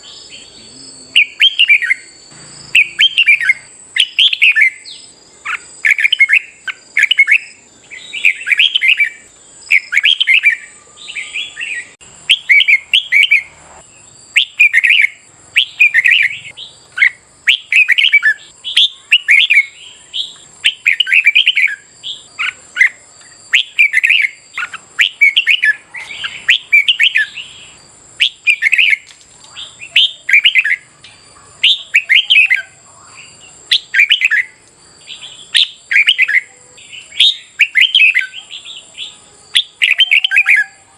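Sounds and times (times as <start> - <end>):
bulbuls warbling: 0.0 - 13.8, 14.4 - 40.9
faint high hiss: 0.0 - 40.9.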